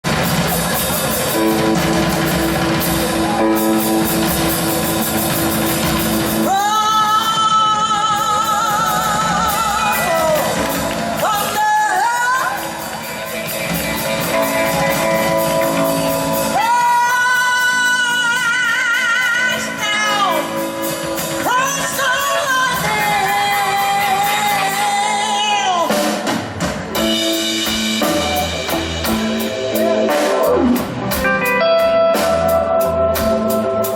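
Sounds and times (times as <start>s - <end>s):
blues band playing: 0.0s - 33.9s.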